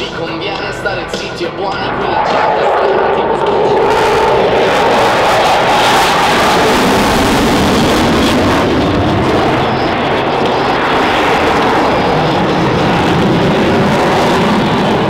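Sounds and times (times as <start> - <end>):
fighter jet engines roaring: 0.0 - 15.0.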